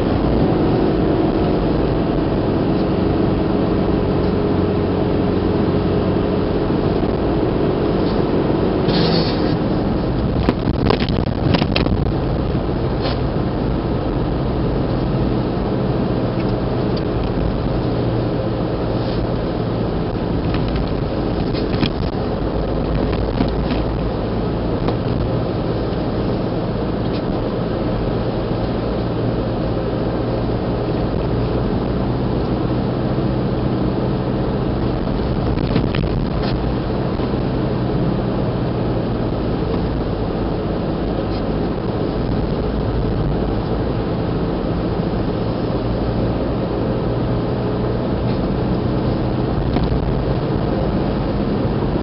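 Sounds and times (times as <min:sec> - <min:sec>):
car engine and tyre noise: 0:00.0 - 0:52.0.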